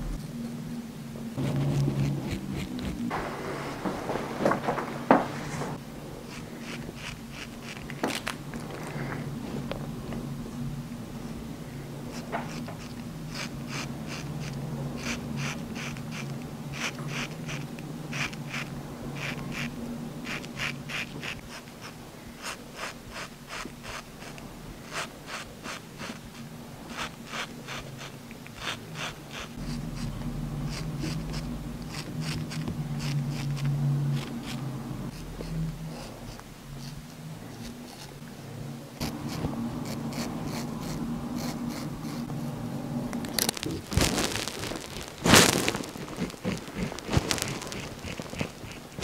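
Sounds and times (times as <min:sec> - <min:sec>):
low steady hum: 0:00.0 - 0:49.0
straight razor scraping stubble: 0:01.4 - 0:03.8, 0:06.3 - 0:08.4, 0:12.1 - 0:38.2, 0:39.0 - 0:42.3, 0:43.3 - 0:49.0.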